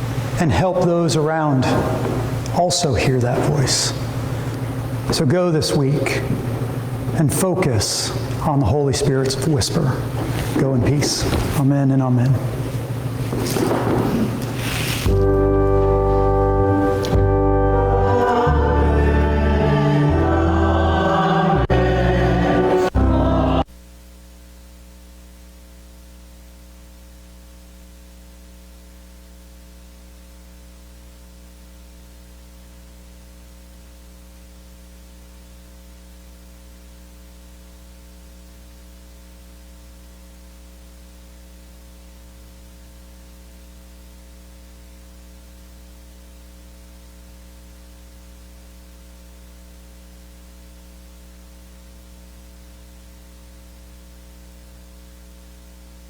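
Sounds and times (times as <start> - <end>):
buzzing electrical mains hum: 0.0 - 56.0.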